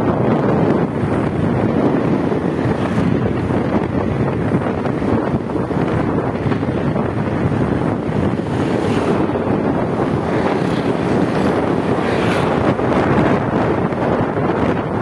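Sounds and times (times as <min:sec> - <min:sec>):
road noise: 0:00.0 - 0:15.0
wind buffeting microphone: 0:00.0 - 0:15.0
motorcycle engine running: 0:00.1 - 0:14.9.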